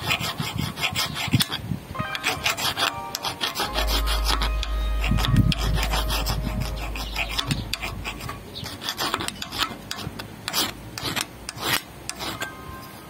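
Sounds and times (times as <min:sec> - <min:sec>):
steel blade scraping metal: 0:01.4 - 0:12.5.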